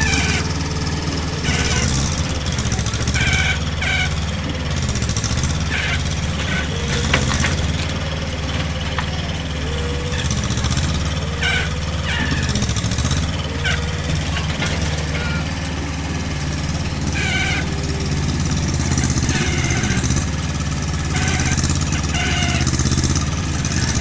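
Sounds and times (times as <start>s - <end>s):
excavator diesel engine working: 0.0s - 24.0s
short high squeaks: 0.0s - 24.0s.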